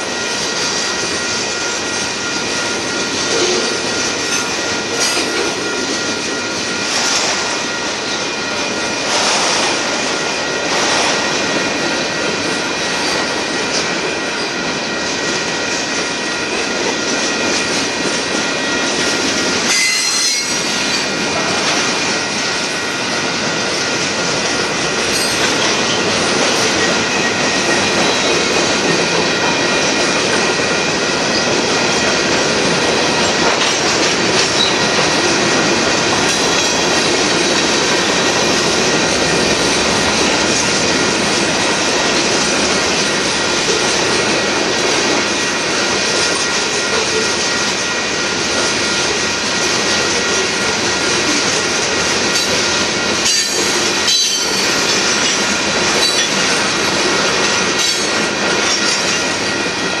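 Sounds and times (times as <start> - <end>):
high wheel squeal: 0.0 - 44.5, 53.2 - 60.0
steel wheels rolling on rails: 0.0 - 60.0.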